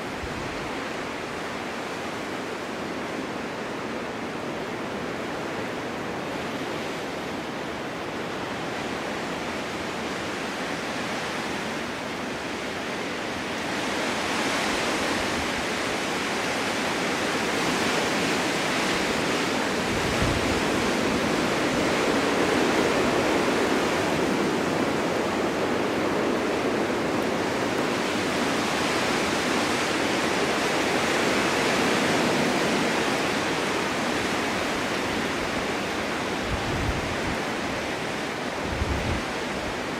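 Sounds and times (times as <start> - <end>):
snowstorm wind gusting: 0.0 - 39.9.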